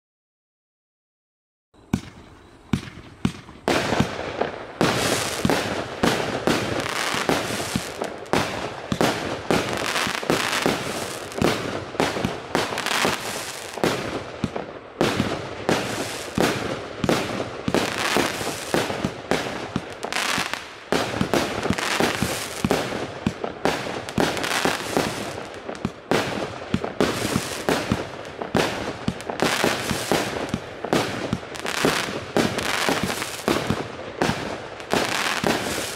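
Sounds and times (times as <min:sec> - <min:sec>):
firework cake firing: 0:01.9 - 0:35.9
firework crackling: 0:01.9 - 0:35.9.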